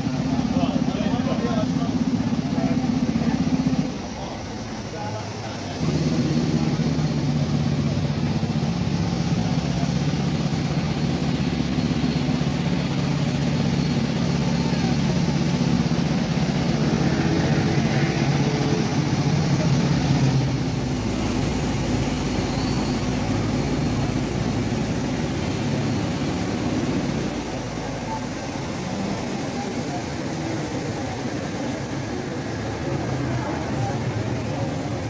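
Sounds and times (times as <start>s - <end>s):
people's voices: 0.0s - 35.0s
traffic noise: 0.0s - 35.0s.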